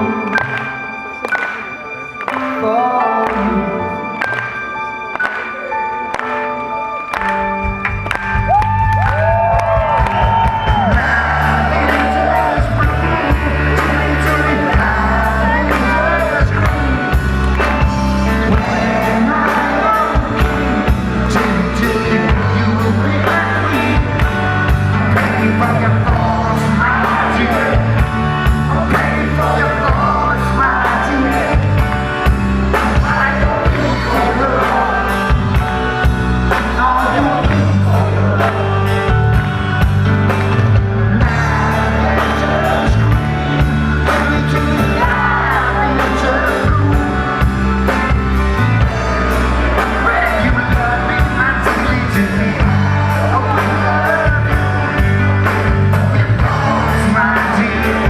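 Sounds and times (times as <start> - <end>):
live rock band playing: 0.0 - 58.0
melodic lead line: 0.0 - 58.0.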